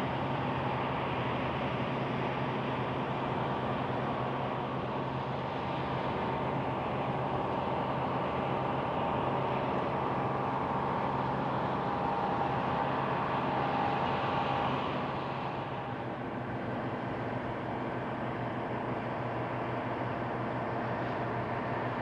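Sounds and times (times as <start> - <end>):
tugboat engines droning: 0.0 - 22.0.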